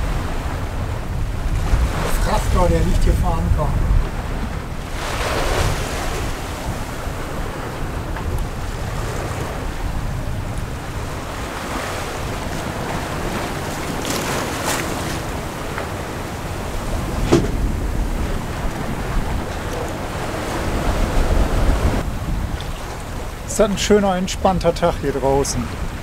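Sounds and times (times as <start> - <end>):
water rushing along a hull: 0.0 - 26.0
wave splashes: 0.0 - 26.0
wind buffeting the microphone: 0.0 - 26.0.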